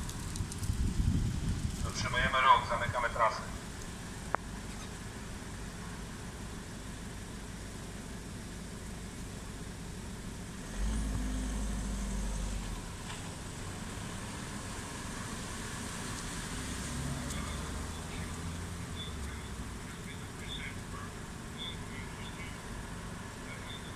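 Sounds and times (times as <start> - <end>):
car engine and tyres running: 0.0 - 23.9.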